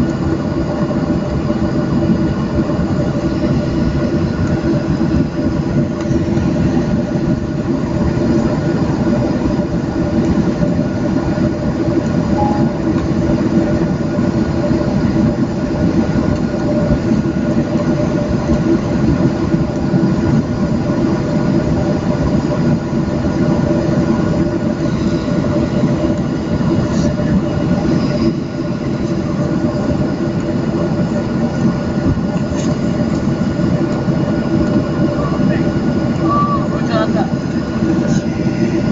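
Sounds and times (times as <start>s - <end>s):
jet engines humming: 0.0s - 38.9s.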